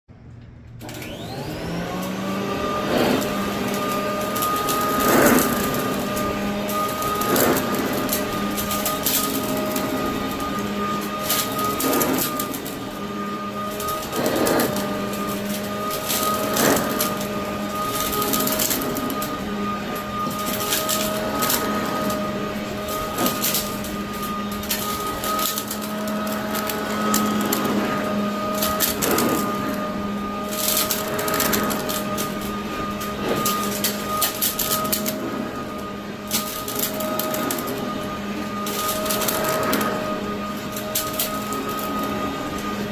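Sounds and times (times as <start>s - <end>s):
vacuum cleaner motor running: 0.8s - 42.9s.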